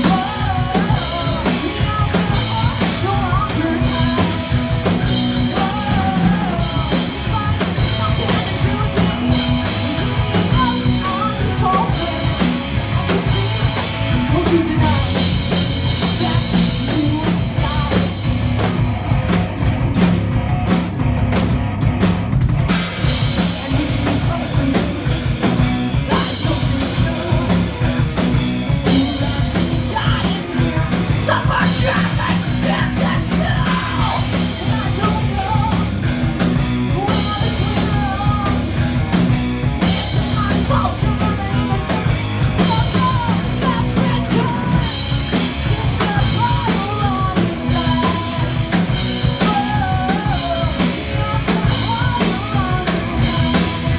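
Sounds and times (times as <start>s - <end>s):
live metal band playing: 0.0s - 53.9s.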